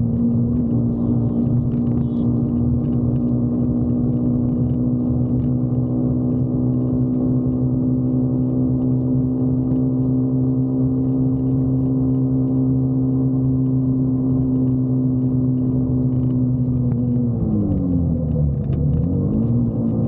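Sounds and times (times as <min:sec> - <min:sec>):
motorcycle engine drone: 0:00.0 - 0:20.0.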